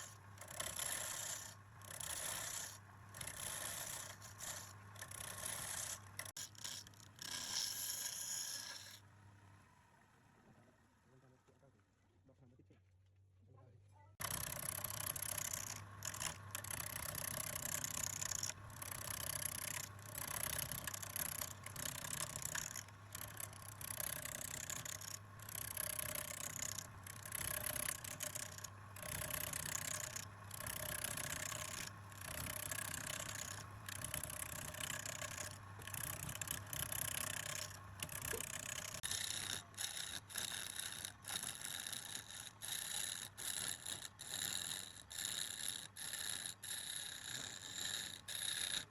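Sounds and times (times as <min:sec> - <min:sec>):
chisel cutting wood on a lathe: 0:00.0 - 0:09.1, 0:14.2 - 0:48.9.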